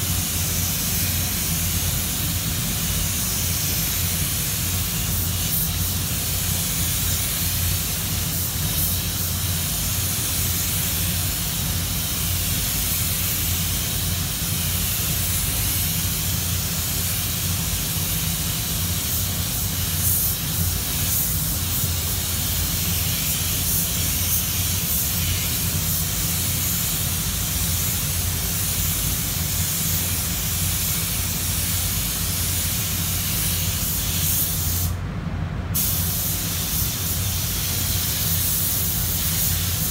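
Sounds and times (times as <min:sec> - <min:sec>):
spray gun hissing: 0:00.0 - 0:35.0, 0:35.8 - 0:39.9
steady low hum: 0:00.0 - 0:39.9.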